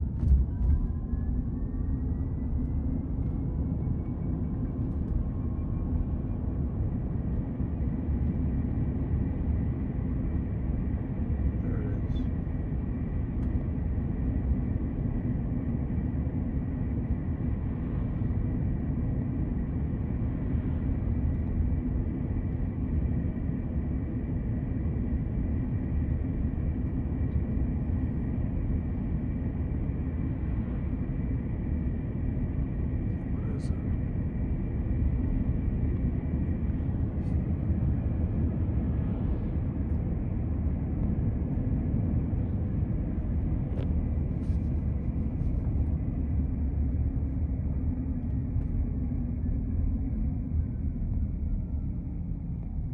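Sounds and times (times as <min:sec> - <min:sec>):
low road rumble: 0:00.0 - 0:52.9.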